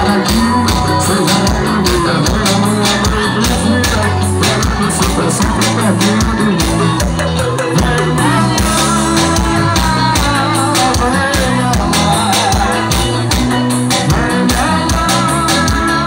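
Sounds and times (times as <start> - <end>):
bass: 0.0 - 16.0
drum beat: 0.0 - 16.0
live band music: 0.0 - 16.0
person singing: 0.0 - 16.0.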